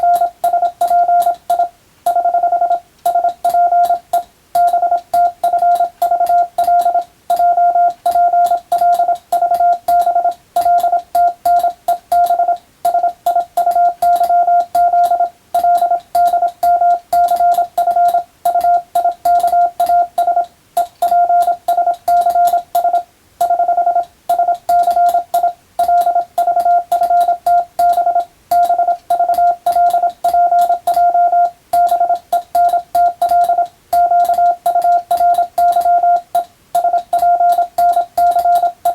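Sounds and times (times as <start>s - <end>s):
morse code beeping: 0.0s - 38.9s.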